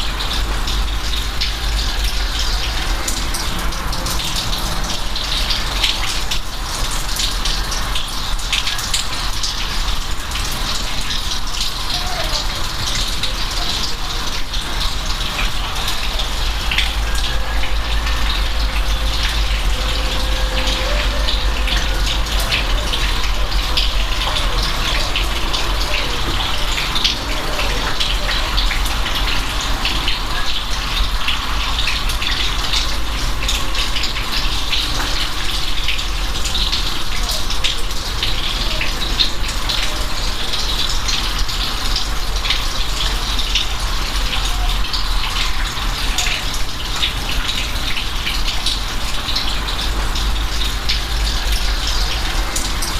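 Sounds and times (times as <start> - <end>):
rain falling: 0.0 - 52.9.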